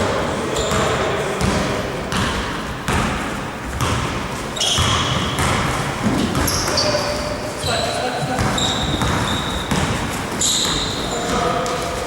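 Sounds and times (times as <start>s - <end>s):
basketball bouncing on court: 0.5s - 11.9s.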